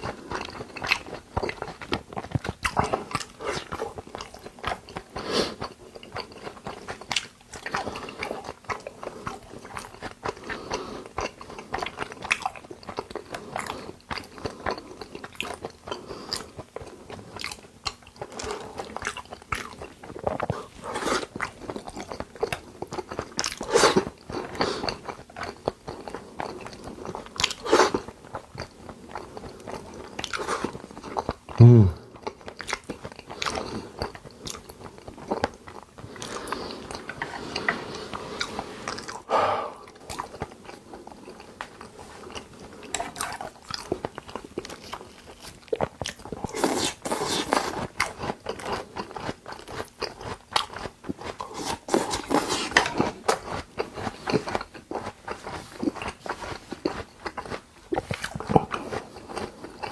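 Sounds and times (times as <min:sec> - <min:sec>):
person chewing and eating: 0:00.0 - 0:59.9.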